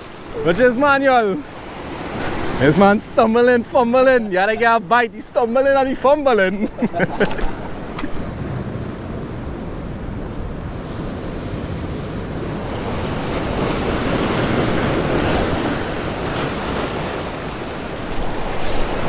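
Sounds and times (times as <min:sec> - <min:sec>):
sea noise: 0:00.0 - 0:19.0
wind on microphone: 0:01.6 - 0:19.0.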